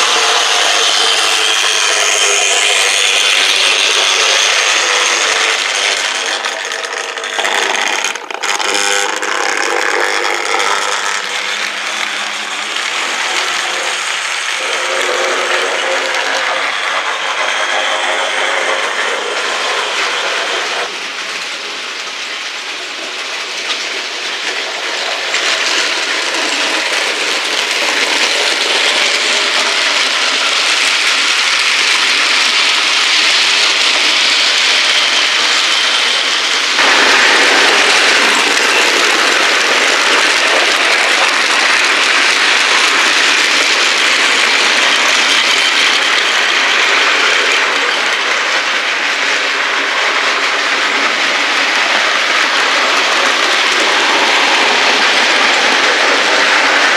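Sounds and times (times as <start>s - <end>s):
model train whirring rattle: 0.0s - 56.9s.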